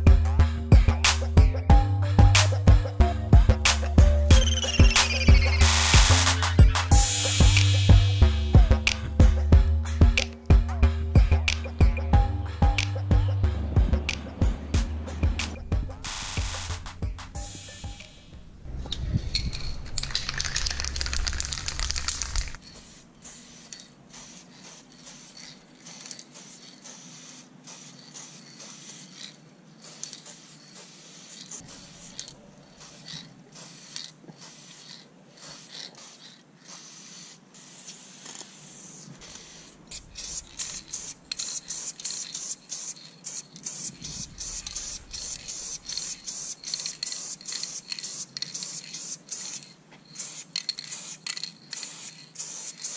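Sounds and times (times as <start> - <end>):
spray can hissing: 2.1 - 2.7, 3.5 - 9.5, 14.0 - 18.3, 19.3 - 52.9.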